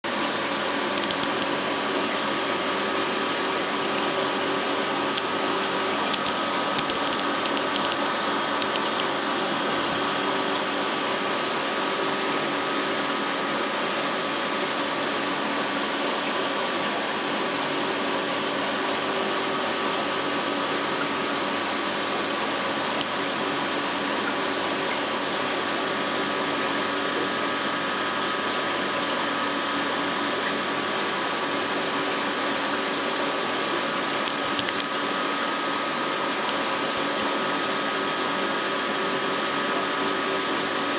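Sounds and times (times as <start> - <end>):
aquarium pumps whirring: 0.1 - 40.9.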